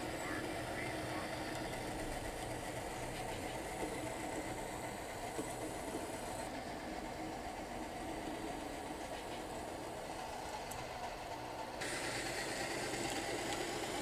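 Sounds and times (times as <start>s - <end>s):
model locomotives running on track: 0.0s - 14.0s.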